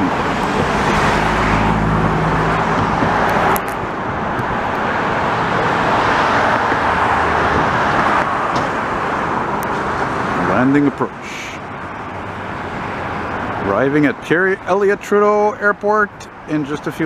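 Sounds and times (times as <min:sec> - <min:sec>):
highway traffic rush: 0:00.0 - 0:17.0.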